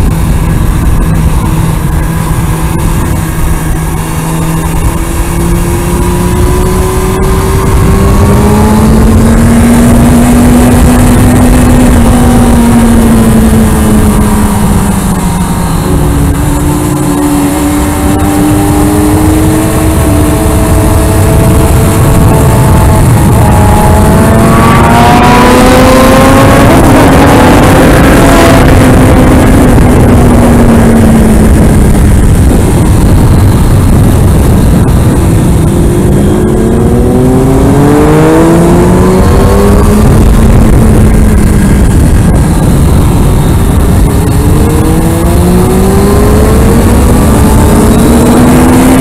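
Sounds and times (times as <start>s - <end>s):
motorcycle engine running hard: 0.0s - 49.0s
wind noise: 0.0s - 49.0s.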